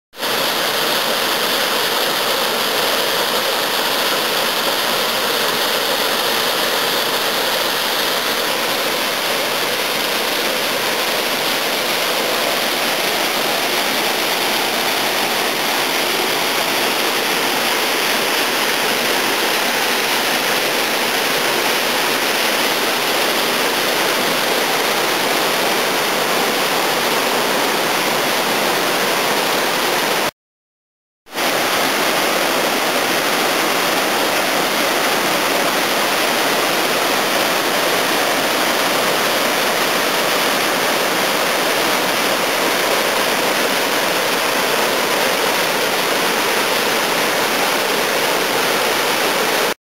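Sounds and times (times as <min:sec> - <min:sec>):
waterfall rushing: 0:00.2 - 0:30.3, 0:31.3 - 0:49.8.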